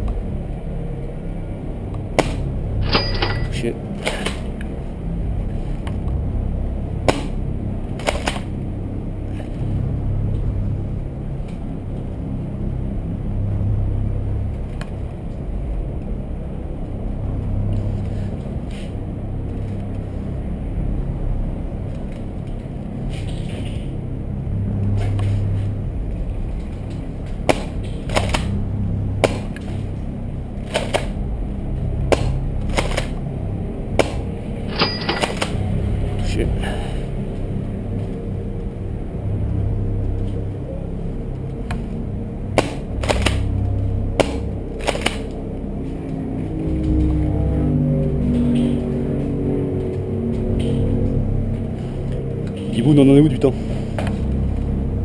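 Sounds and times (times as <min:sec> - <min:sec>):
low microphone rumble: 0:00.0 - 0:55.0.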